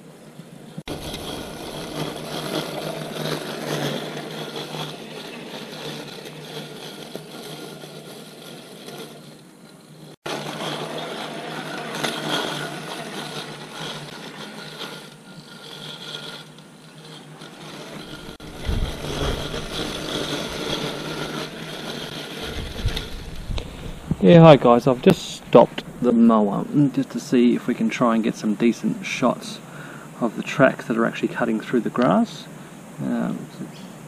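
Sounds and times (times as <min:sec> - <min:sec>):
lawn mower motor humming: 0:00.6 - 0:33.4.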